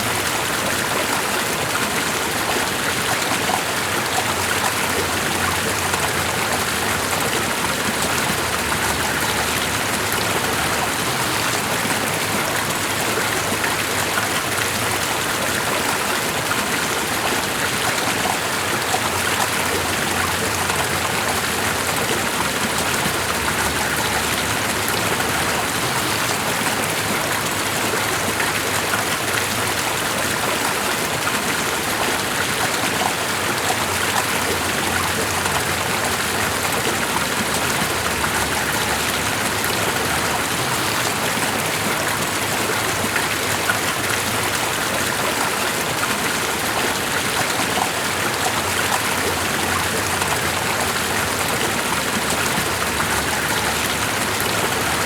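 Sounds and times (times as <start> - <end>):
stream water running: 0.0 - 55.0.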